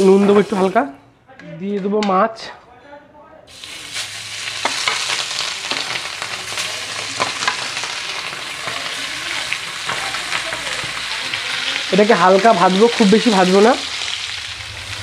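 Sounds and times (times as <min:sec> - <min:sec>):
fish sizzling in hot oil: 0:00.0 - 0:00.8, 0:03.5 - 0:15.0.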